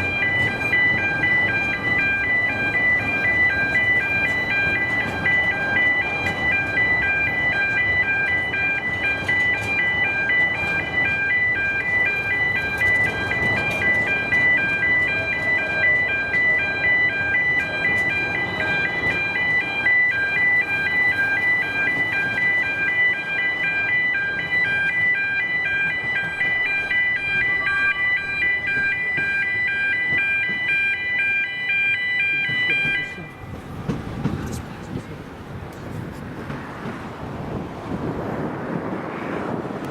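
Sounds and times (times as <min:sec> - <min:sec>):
electronic warning alarm: 0:00.0 - 0:33.6
rough outdoor background noise: 0:00.0 - 0:39.9.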